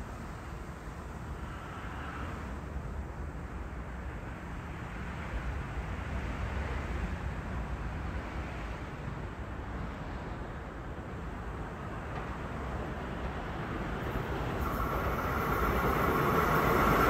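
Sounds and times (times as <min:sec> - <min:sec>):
train approaching with low rumble: 0:00.0 - 0:17.0.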